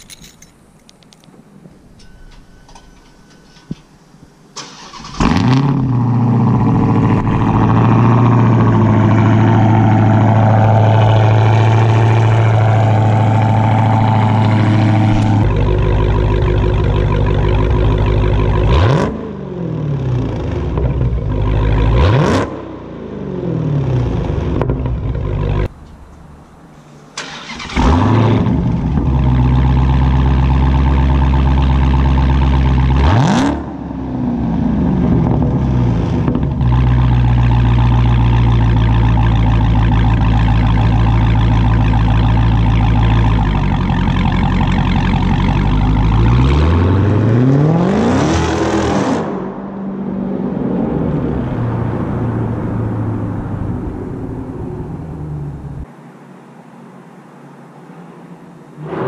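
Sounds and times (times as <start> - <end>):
car engine starting and idling: 0.0 - 59.0
supercharger whine: 0.0 - 59.0
car engine revving: 4.6 - 55.9.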